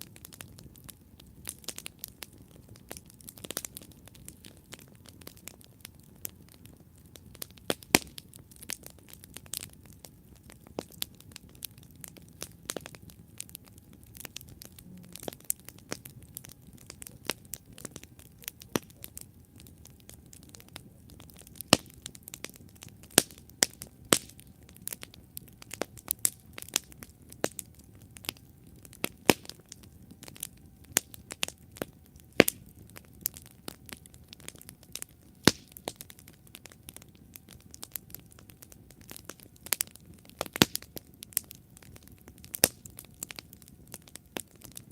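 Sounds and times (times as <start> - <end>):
campfire crackling and popping: 0.0 - 44.9
low rumble of flames: 0.0 - 44.9.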